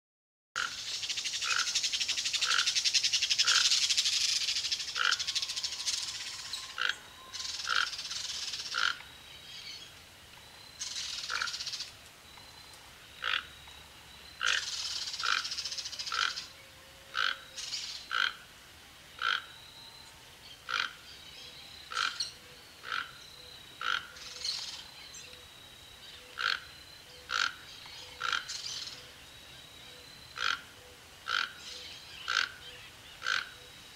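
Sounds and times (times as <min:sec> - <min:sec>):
toucan croaking call: 0:00.6 - 0:09.9, 0:10.8 - 0:12.0, 0:13.0 - 0:13.7, 0:14.3 - 0:18.5, 0:19.2 - 0:19.8, 0:20.6 - 0:21.2, 0:21.8 - 0:33.9.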